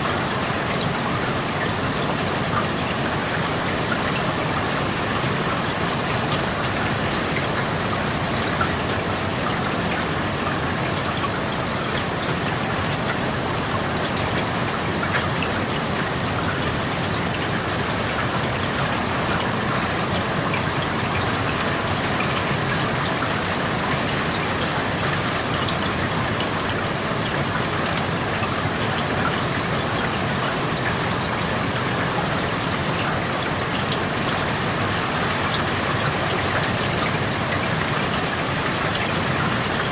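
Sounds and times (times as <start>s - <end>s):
raindrops tapping on surfaces: 0.0s - 39.9s
steady rain hiss: 0.0s - 39.9s.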